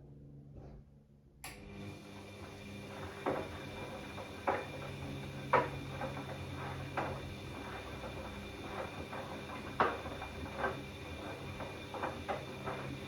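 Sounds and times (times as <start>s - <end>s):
washing machine drum whirring: 1.5s - 13.0s.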